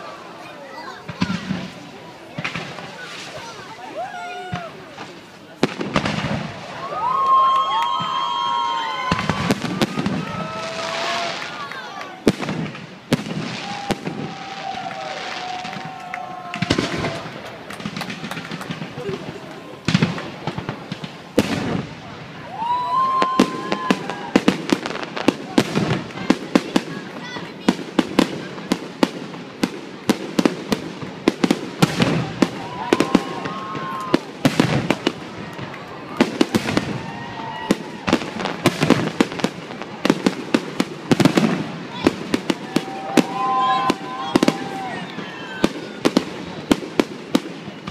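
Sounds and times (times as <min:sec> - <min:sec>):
firework bangs: 0:00.0 - 0:47.9
firework crackling: 0:00.0 - 0:47.9.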